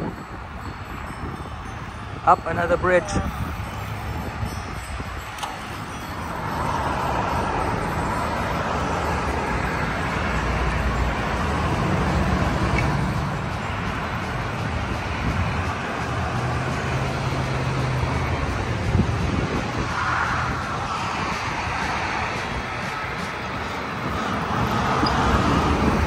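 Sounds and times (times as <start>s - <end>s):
tyre and road noise: 0.0s - 26.0s
vehicle engines humming: 0.0s - 26.0s.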